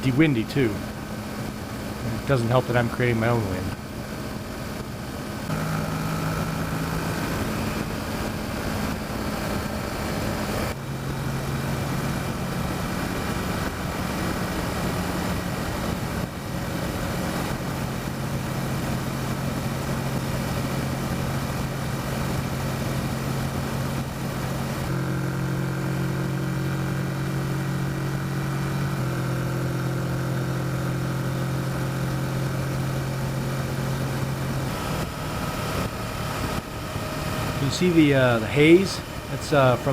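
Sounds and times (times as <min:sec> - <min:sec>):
motorcycle engine cruising: 0:03.3 - 0:39.9.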